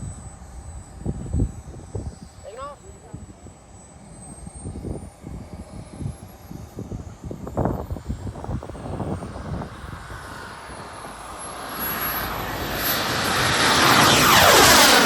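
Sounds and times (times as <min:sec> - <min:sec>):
jet turbine whining roar: 0:00.0 - 0:15.0.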